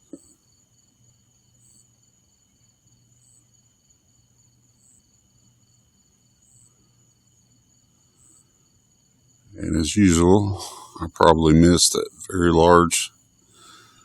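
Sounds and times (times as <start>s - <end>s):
crickets chirping: 0.0s - 14.0s
night insect chorus: 0.0s - 14.0s.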